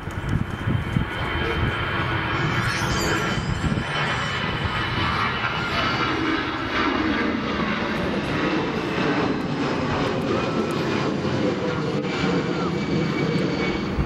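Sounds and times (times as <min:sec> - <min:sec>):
jet engines whining and rumbling: 0:00.0 - 0:14.0
wind buffeting microphone: 0:00.0 - 0:14.0.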